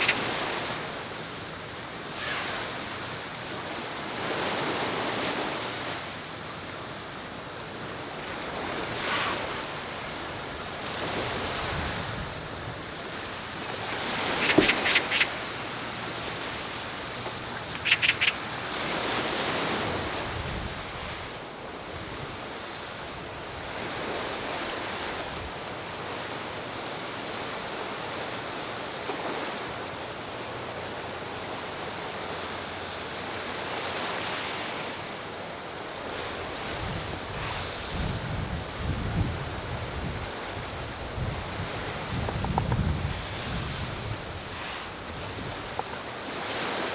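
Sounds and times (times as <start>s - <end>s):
sea waves washing ashore: 0.0s - 46.9s
wind: 0.0s - 46.9s.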